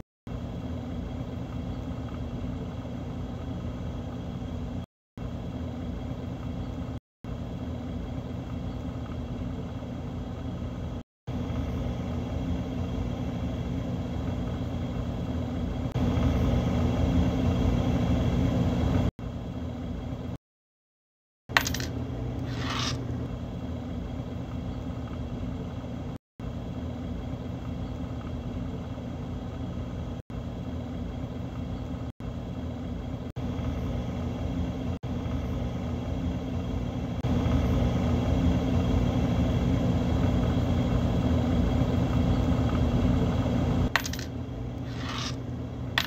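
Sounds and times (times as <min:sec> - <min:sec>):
low rumble and hum: 0:00.0 - 0:20.4, 0:21.5 - 0:46.0.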